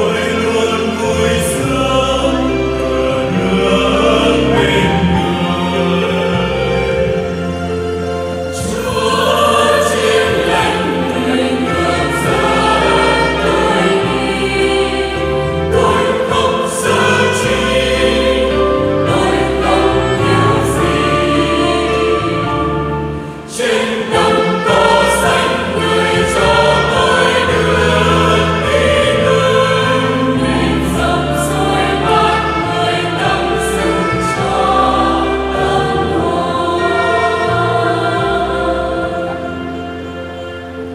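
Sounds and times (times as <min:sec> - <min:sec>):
choir singing a hymn: 0:00.0 - 0:40.9.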